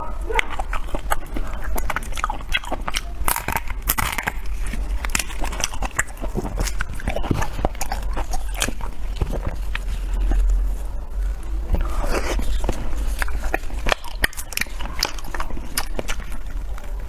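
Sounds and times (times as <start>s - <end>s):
crunchy biting and chewing: 0.0s - 17.0s.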